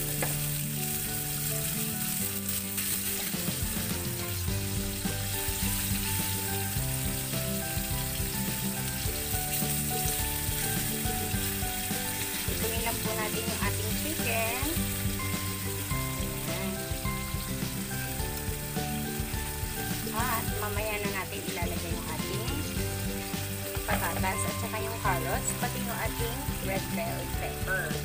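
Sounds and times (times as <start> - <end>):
background music: 0.0 - 28.0
food sizzling in a wok: 0.0 - 28.0.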